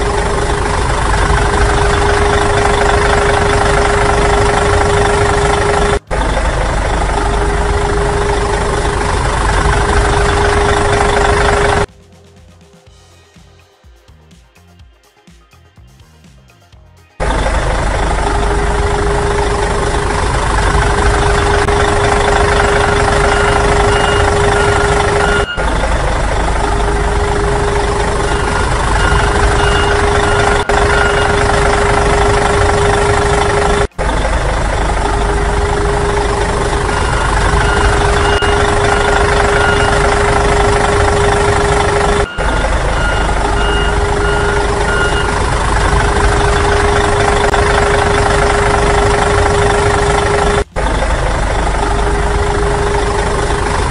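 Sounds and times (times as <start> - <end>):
reversing alarm beeping: 0.0 - 11.9, 17.2 - 53.9
truck engine running: 0.0 - 11.9, 17.2 - 53.9.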